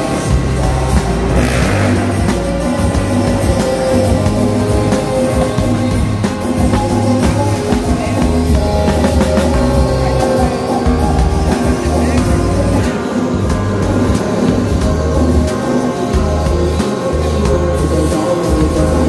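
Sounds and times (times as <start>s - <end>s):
rock music with drums and guitar: 0.0s - 19.0s.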